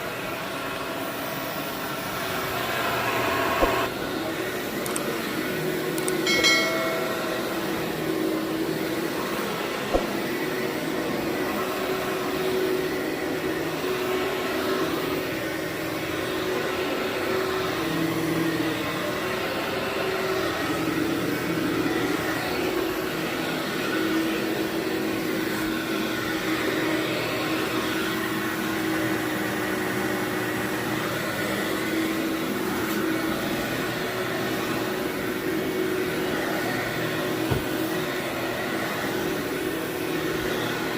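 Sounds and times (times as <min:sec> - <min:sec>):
vacuum cleaner running on carpet: 0:00.0 - 0:40.9.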